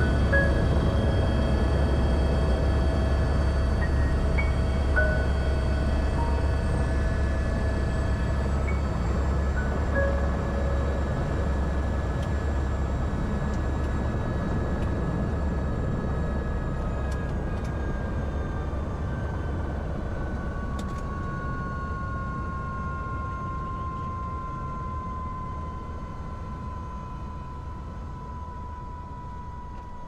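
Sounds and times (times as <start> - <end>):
helicopter rotor and engine rumble: 0.0 - 30.0
helicopter whine: 0.0 - 30.0.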